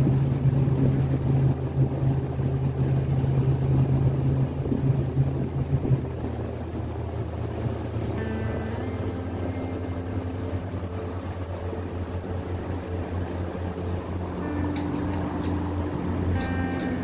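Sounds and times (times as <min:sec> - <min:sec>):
small boat motor humming: 0:00.0 - 0:17.0.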